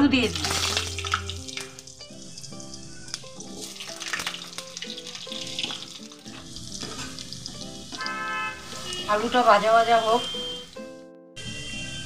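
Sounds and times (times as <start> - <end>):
background music: 0.0 - 12.0
potato wedges sizzling in oil: 0.1 - 11.0
spatula turning food: 0.5 - 10.9.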